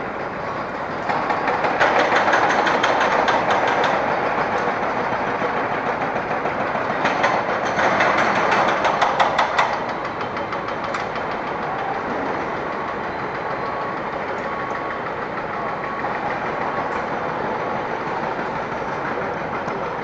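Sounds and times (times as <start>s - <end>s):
construction machinery running: 0.0s - 20.0s.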